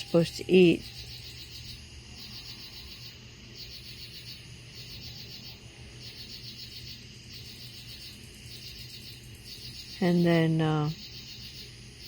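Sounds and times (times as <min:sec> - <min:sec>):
insects chirping in pulses: 0:00.0 - 0:12.0.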